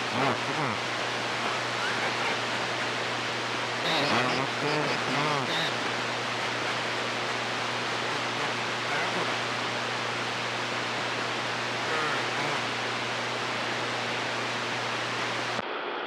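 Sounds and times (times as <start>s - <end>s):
faint voices over radio: 0.0s - 3.2s, 3.8s - 14.2s
low hum: 0.0s - 15.6s
radio static hiss: 0.0s - 16.0s.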